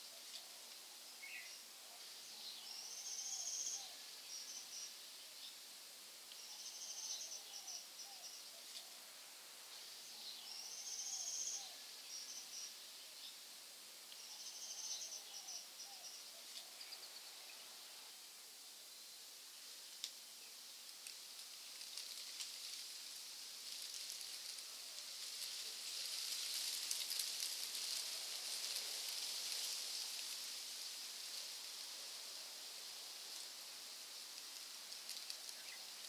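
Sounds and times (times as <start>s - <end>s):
forest insects hissing: 0.0s - 36.0s.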